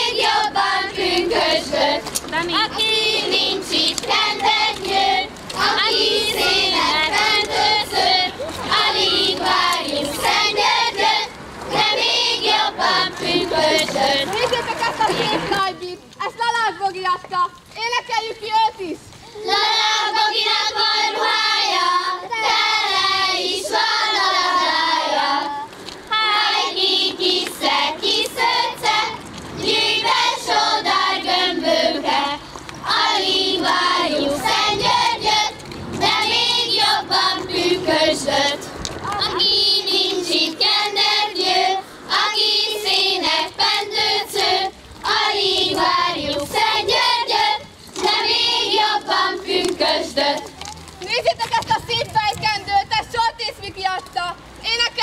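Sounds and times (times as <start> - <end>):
girls singing folk song: 0.0 - 15.6, 19.3 - 50.7.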